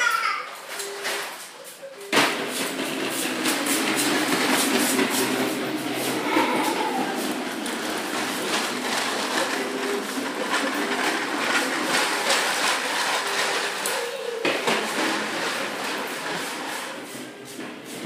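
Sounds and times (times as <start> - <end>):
plastic wheels rattling on tile floor: 0.0 - 18.0.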